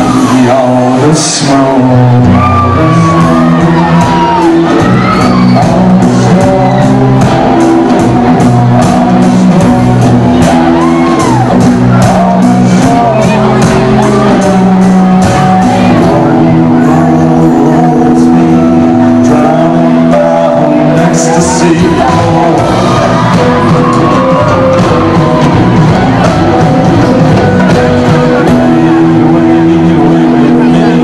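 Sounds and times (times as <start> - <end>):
drums and cymbal hits: 0.0 - 31.0
guitar chords: 0.0 - 31.0.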